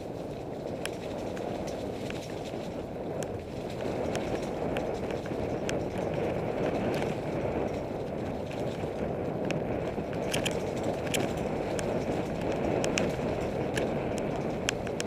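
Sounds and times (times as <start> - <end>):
bike clicks and rattles: 0.0 - 15.0
low rumble of riding: 0.0 - 15.0.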